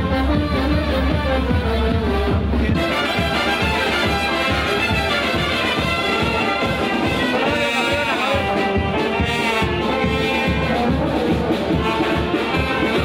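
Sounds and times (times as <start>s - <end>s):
brass band music: 0.0s - 13.0s.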